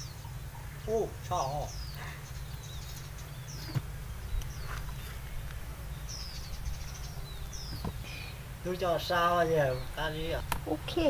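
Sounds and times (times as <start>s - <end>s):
low background rumble: 0.0s - 11.0s
small birds chirping: 0.0s - 11.0s.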